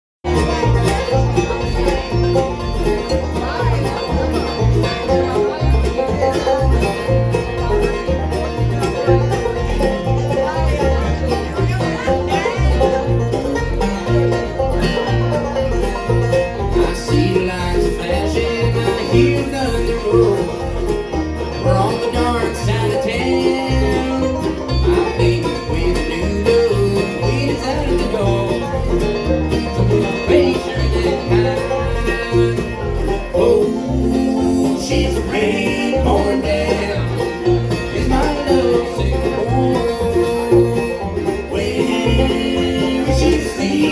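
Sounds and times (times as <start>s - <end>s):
banjo picking: 0.2s - 43.9s
bluegrass band playing: 0.2s - 43.9s.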